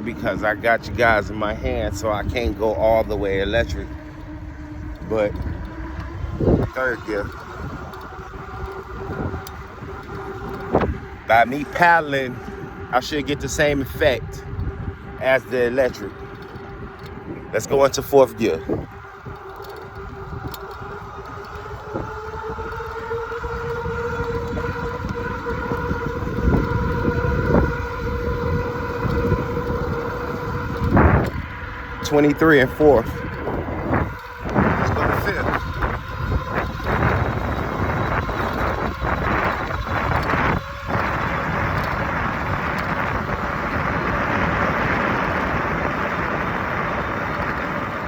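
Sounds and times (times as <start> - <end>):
electric bike motor whining: 0.0 - 48.0
wind noise on microphone: 0.0 - 48.0.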